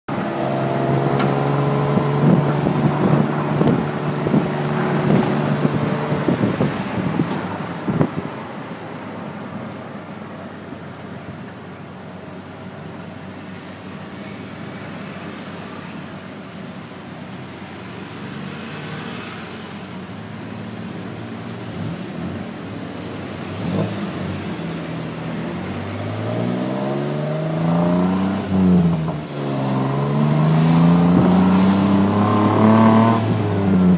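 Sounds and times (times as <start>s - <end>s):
traffic noise: 0.1s - 33.9s.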